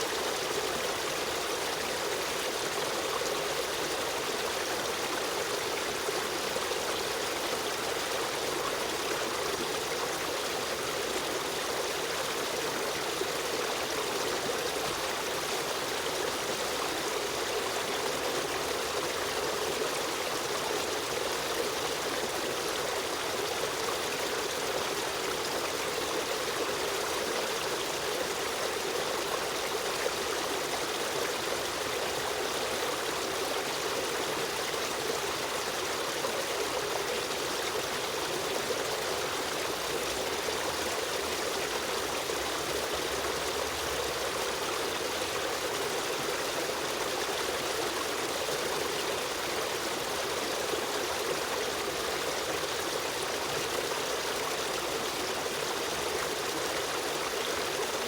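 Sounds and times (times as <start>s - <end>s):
river stream flowing: 0.0s - 58.0s.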